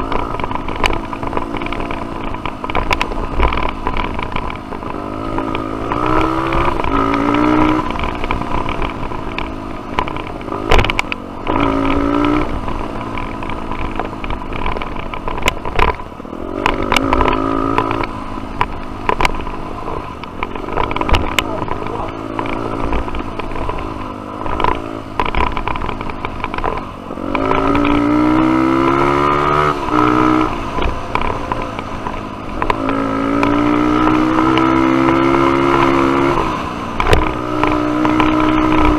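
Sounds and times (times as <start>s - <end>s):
dirt bike engine revving: 0.0s - 14.6s, 16.3s - 38.9s
sharp knocks and clatter: 0.0s - 38.9s.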